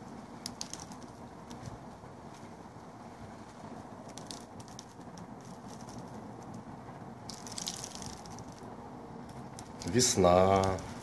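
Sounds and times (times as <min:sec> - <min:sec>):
steady rain falling: 0:00.0 - 0:11.0
raindrops ticking close by: 0:00.3 - 0:02.5, 0:03.4 - 0:11.0.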